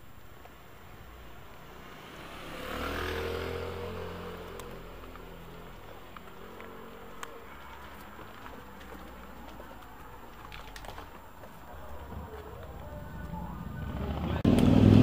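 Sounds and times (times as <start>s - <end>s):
motorbike passing by: 1.0s - 10.4s, 11.7s - 15.0s.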